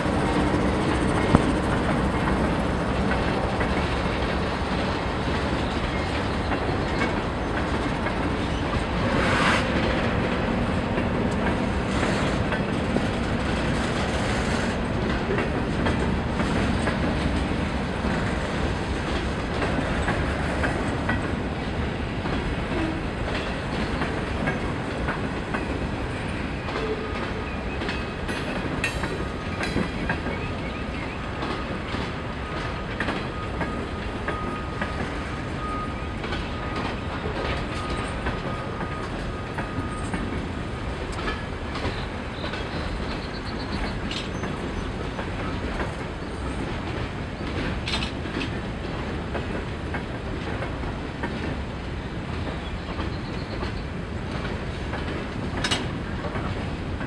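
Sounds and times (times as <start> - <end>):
train wheels clacking over rail joints: 0.0 - 57.0.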